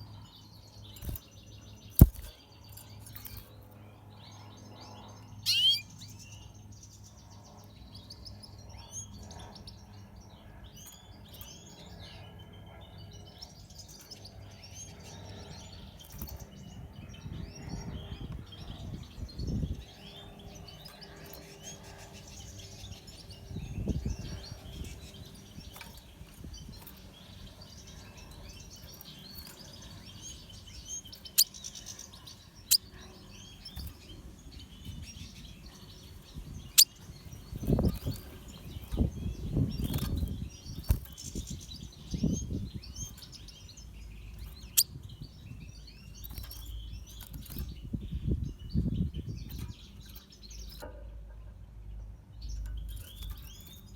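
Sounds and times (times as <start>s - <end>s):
birds twittering and singing: 0.0s - 53.9s.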